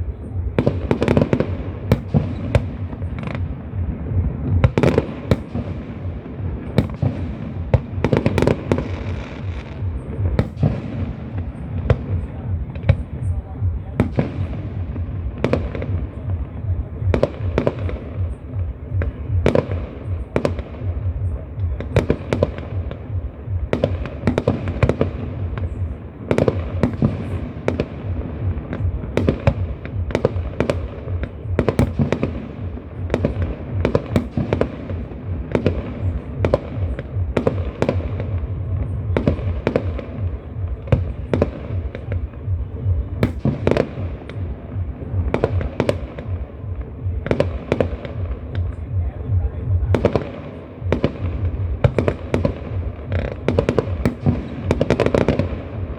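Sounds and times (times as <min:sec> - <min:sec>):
fireworks bangs and cracks: 0:00.0 - 0:55.9.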